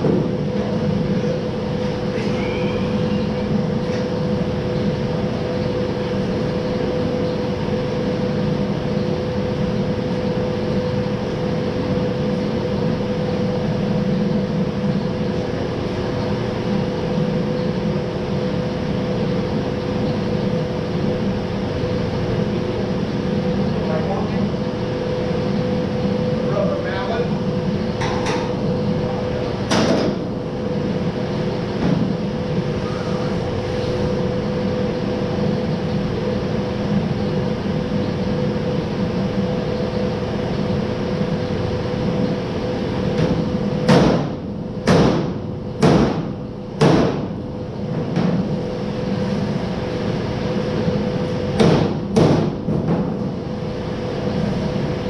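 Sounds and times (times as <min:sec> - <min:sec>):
shop machine humming: 0:00.0 - 0:55.0.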